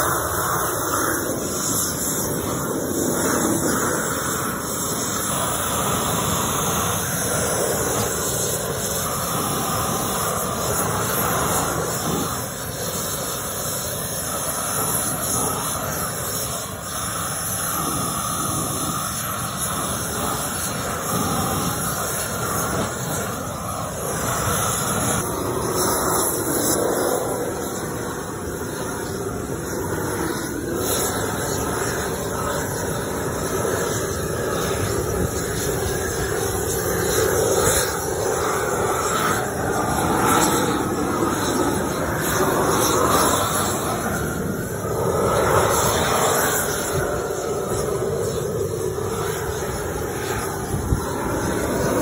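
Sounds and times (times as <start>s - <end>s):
propane torch flame hissing: 0.0s - 52.0s.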